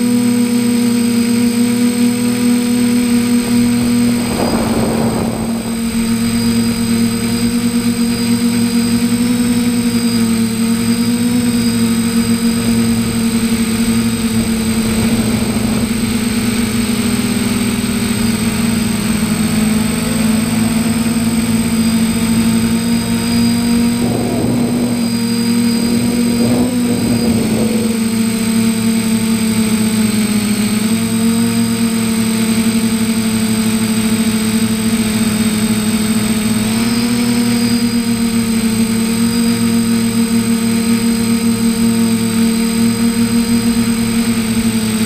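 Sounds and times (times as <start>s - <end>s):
drone propellers whirring: 0.0s - 45.0s.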